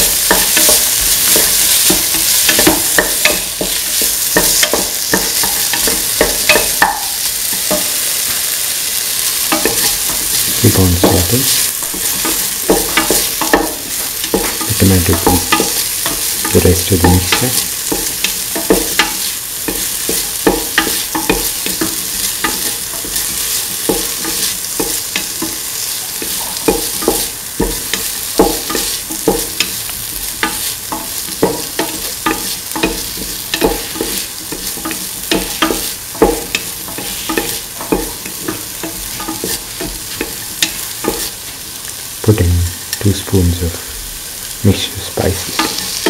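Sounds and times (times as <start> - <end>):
spatula scraping and knocking pot: 0.0 - 42.2, 45.3 - 46.0
vegetables sizzling in hot oil: 0.0 - 46.0.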